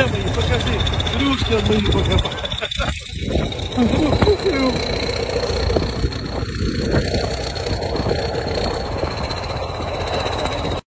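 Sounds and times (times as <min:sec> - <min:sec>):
heavy vehicle engine idling: 0:00.0 - 0:10.8.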